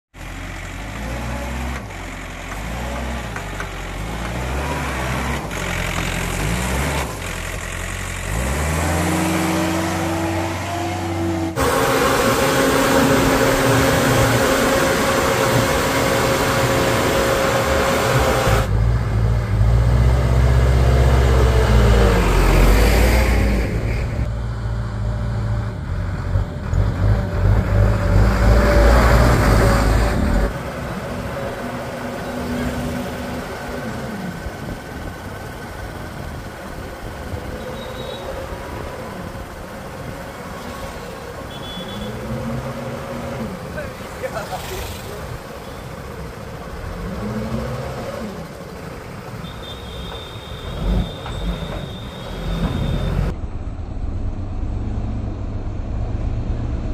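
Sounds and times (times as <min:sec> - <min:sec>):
diesel engine rumbling: 0:00.1 - 0:56.9.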